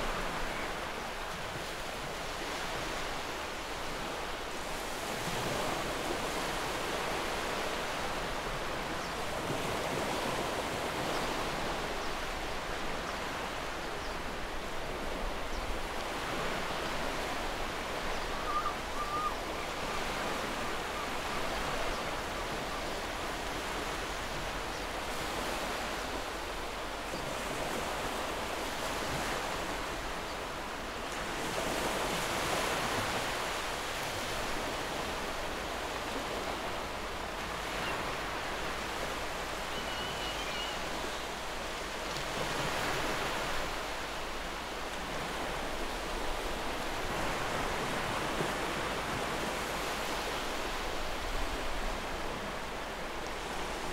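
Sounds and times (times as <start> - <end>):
ocean waves rushing: 0.0 - 53.9.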